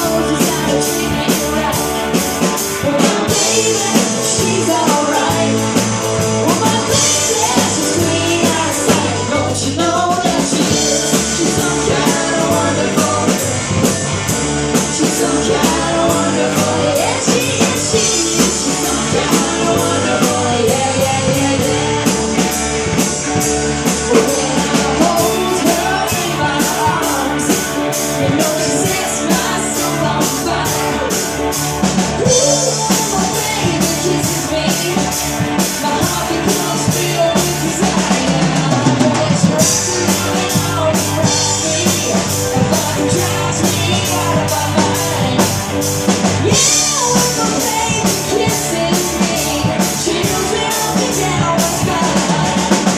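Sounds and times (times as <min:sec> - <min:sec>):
drum kit beat: 0:00.0 - 0:52.9
live rock band playing: 0:00.0 - 0:52.9.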